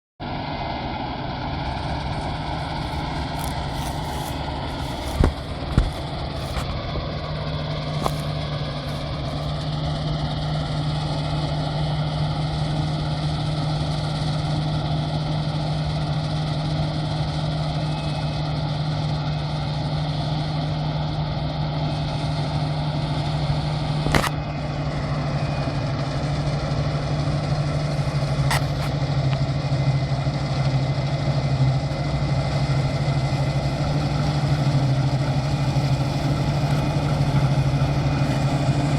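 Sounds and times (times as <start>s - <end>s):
combine harvester droning: 0.2s - 38.9s.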